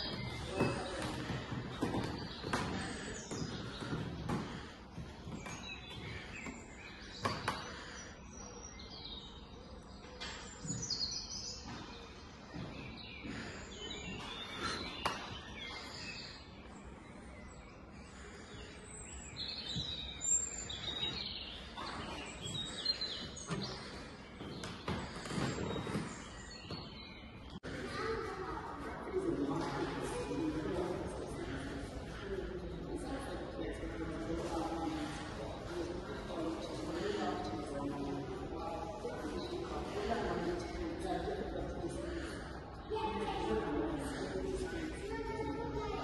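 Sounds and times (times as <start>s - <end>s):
birds chirping and twittering: 0.0s - 46.0s.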